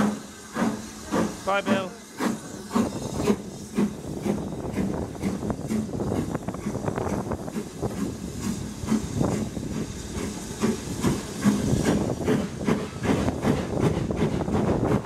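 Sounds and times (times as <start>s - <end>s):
steam hiss and running noise: 0.0s - 15.0s
steam locomotive exhaust chuffs: 0.0s - 15.0s.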